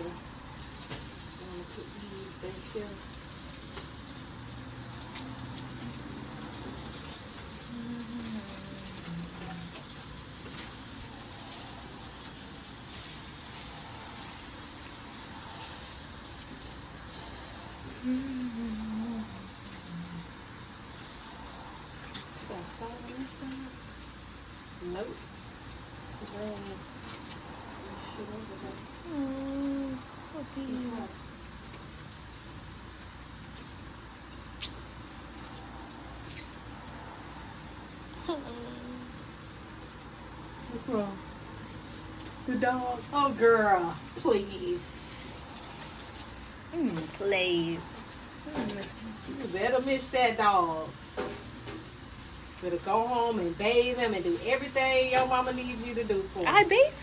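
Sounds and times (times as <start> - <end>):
steady hissing noise: 0.0 - 57.0.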